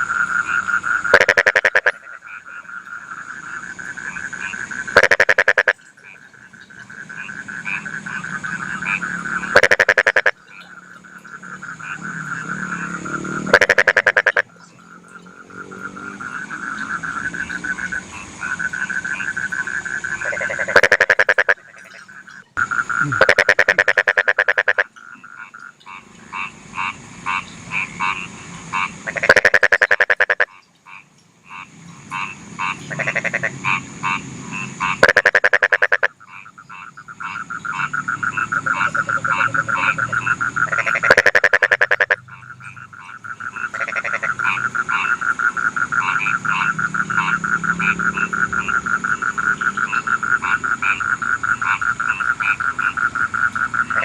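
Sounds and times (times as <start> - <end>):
frog rattling croak: 0.0 - 54.0
frogs trilling chorus: 0.0 - 54.0.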